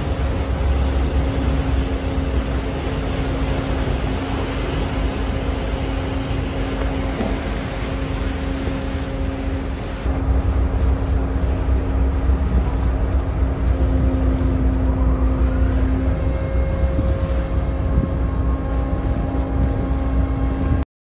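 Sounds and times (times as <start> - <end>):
constant hum: 0.0 - 20.8
ferry engine droning: 0.0 - 20.8.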